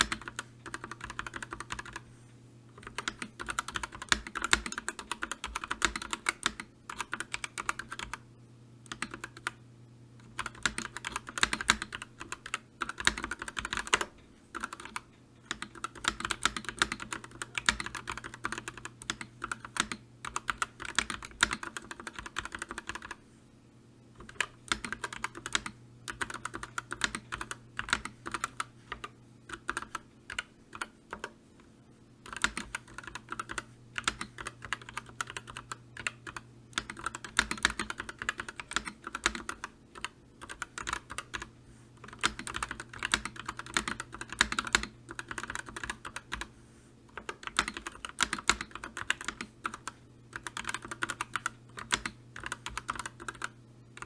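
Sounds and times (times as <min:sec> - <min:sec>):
typing on computer keyboard: 0:00.0 - 0:02.0, 0:02.8 - 0:08.2, 0:08.8 - 0:09.6, 0:10.2 - 0:23.2, 0:24.2 - 0:31.4, 0:32.2 - 0:46.5, 0:47.1 - 0:54.0.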